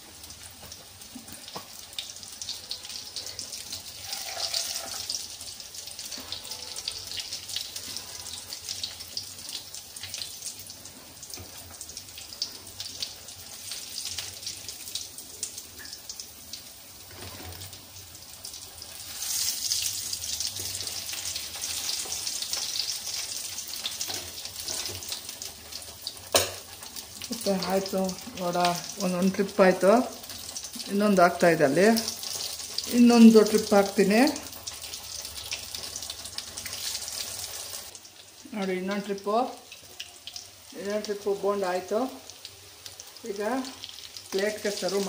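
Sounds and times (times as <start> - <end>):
food deep-frying in hot oil: 0.0 - 45.0.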